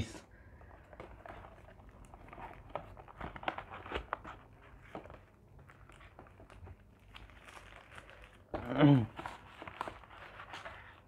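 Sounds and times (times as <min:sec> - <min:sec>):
paper wrapper crinkling: 0:00.6 - 0:11.0.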